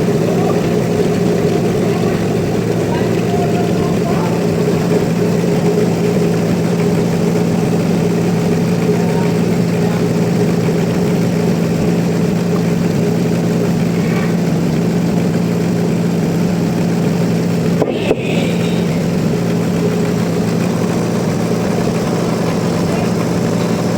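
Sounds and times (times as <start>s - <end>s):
sawmill machinery droning: 0.0s - 23.9s.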